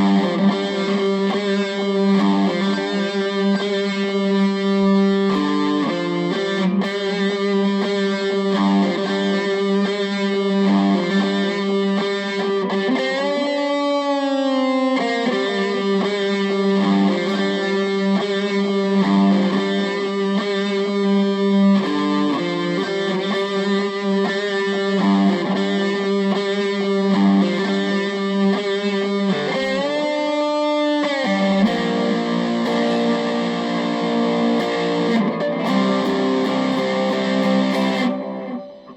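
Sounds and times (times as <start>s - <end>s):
electric guitar through amp: 0.0s - 38.9s.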